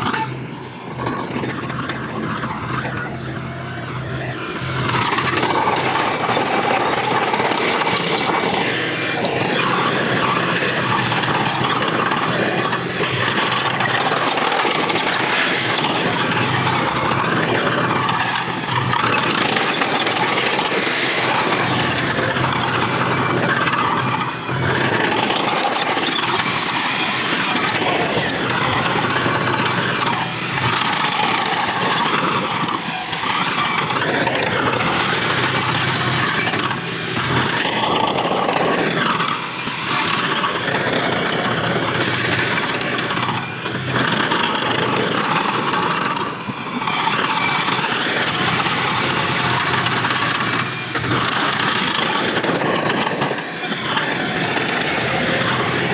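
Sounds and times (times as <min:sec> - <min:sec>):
diesel engines under load: 0:00.0 - 0:55.9.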